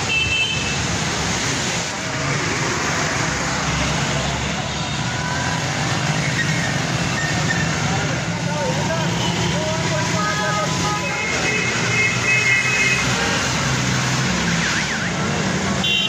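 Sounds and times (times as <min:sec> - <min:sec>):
heavy rain on pavement: 0:00.0 - 0:15.9
road traffic passing: 0:00.0 - 0:16.0.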